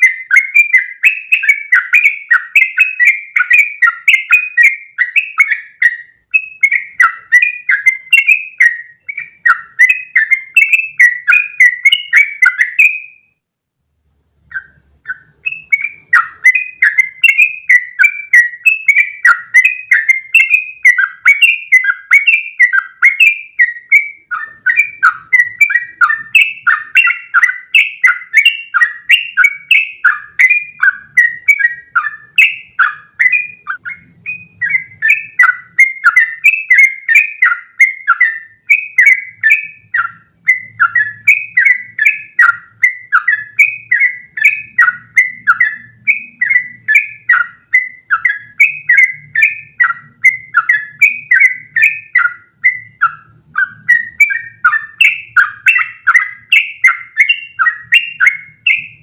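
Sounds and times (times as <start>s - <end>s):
bird chattering song: 0.0s - 13.4s, 14.4s - 59.0s.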